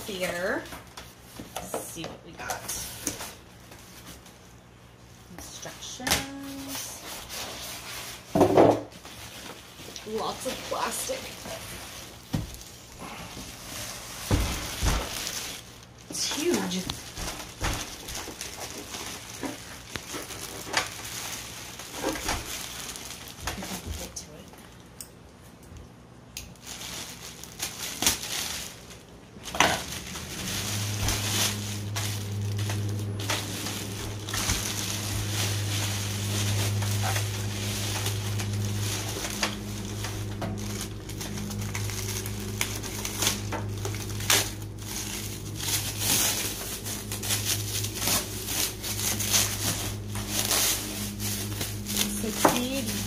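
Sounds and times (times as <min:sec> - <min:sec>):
plastic wrap crinkling: 0:00.0 - 0:25.6, 0:26.3 - 0:53.0
steady low hum: 0:00.0 - 0:53.0.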